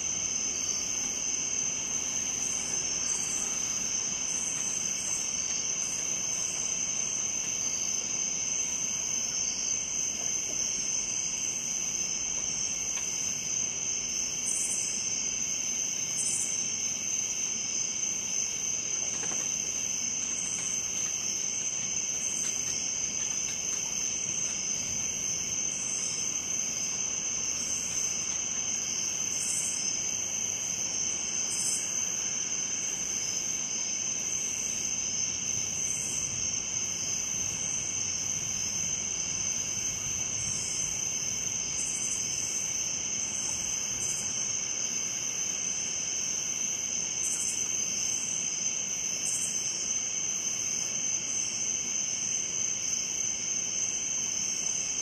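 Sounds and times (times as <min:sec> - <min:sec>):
high-pitched insect trill: 0:00.0 - 0:55.0
pulsing insect chirp: 0:00.0 - 0:55.0.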